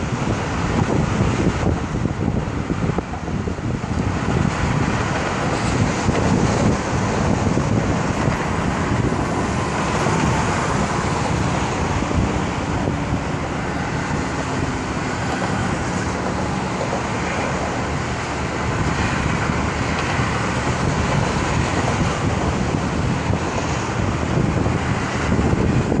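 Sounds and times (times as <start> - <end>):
passing traffic hiss and rumble: 0.0 - 26.0.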